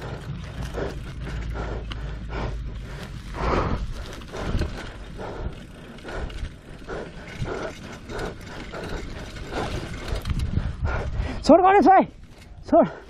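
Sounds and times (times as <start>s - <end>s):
wind rumble on microphone: 0.0s - 11.5s
bicycle freewheel ticking: 0.0s - 13.0s.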